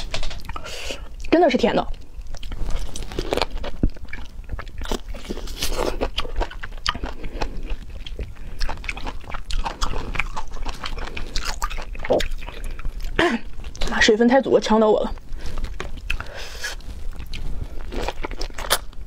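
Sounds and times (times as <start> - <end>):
wet chewing mouth sounds: 2.3 - 13.9, 15.2 - 18.9.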